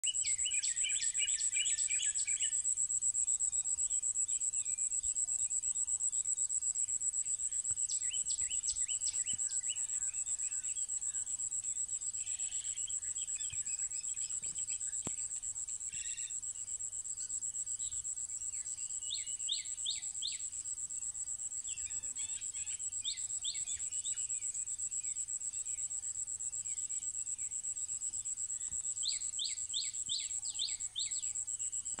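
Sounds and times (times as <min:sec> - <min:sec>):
insect trill: 0:00.0 - 0:32.0.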